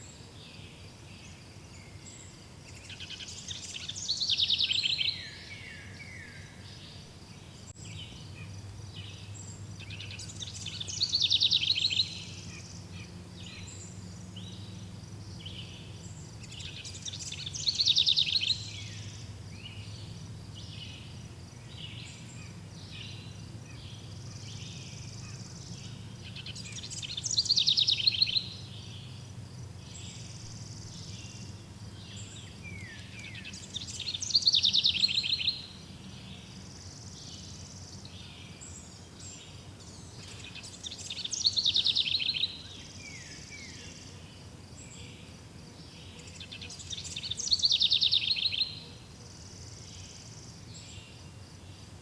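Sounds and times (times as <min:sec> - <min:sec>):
songbird trilling song: 0:00.0 - 0:52.0
pulsing insect chorus: 0:01.2 - 0:52.0.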